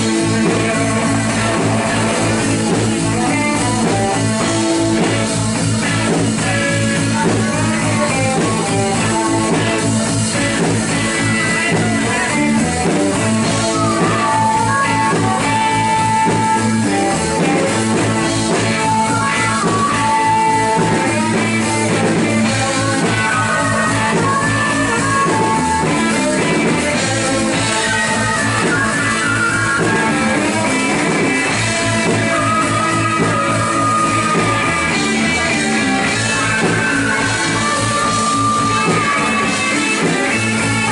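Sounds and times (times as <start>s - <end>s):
drum kit: 0.0s - 40.9s
electric guitar held notes: 0.0s - 40.9s
live rock band: 0.0s - 40.9s.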